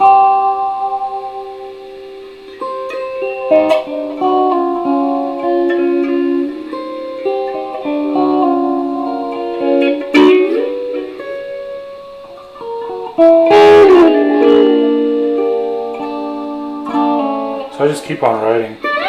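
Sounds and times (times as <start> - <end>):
electric guitar picked notes: 0.0 - 19.0
strummed guitar chord: 0.0 - 19.0.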